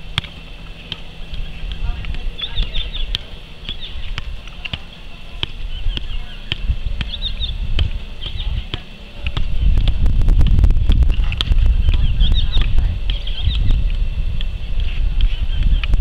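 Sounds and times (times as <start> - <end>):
soccer ball kicks: 0.0 - 14.5
birds chirping: 0.0 - 16.0
low rumble: 0.0 - 16.0.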